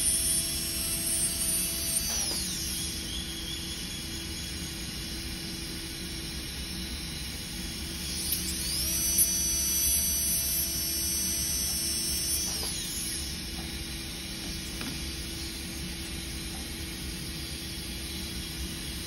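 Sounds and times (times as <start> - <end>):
dental drill whine: 0.0 - 19.0.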